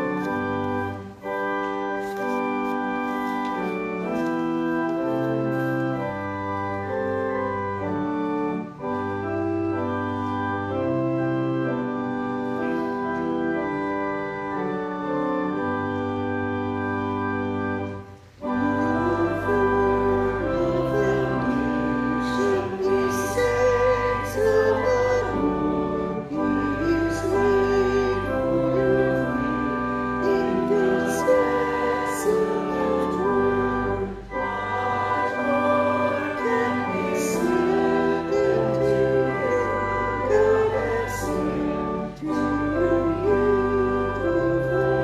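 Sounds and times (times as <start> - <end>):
congregation singing a hymn: 0.0 - 45.0
organ chords: 0.0 - 45.0.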